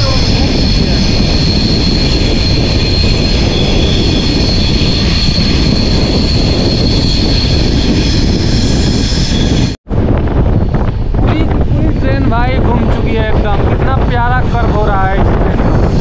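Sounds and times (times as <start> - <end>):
high whine: 0.0 - 16.0
train wheels rumbling on rails: 0.0 - 16.0
wind rushing on microphone: 0.0 - 16.0.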